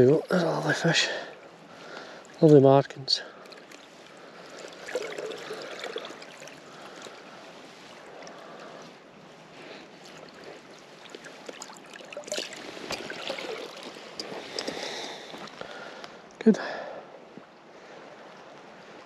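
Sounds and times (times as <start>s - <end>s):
water splashes: 0.0s - 16.1s
river water running: 0.0s - 19.0s.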